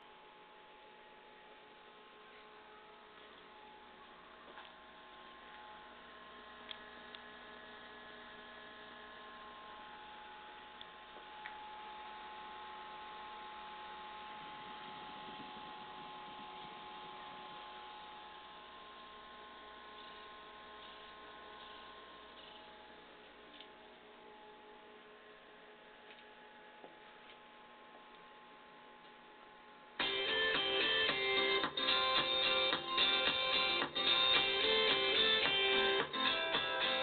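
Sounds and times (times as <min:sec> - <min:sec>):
electronic hum from radio: 0:00.0 - 0:37.0.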